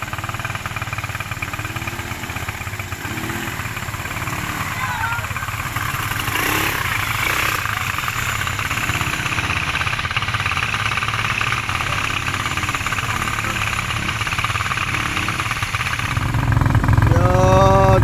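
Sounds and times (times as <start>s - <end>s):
atv engine chugging: 0.0s - 18.0s.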